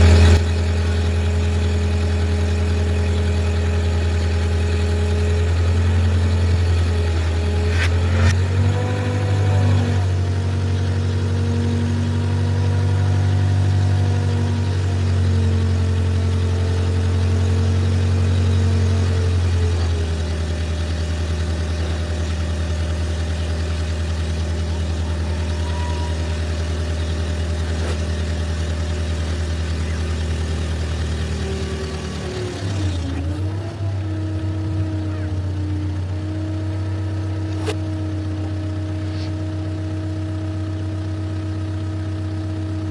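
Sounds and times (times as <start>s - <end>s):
excavator engine humming: 0.0s - 42.9s.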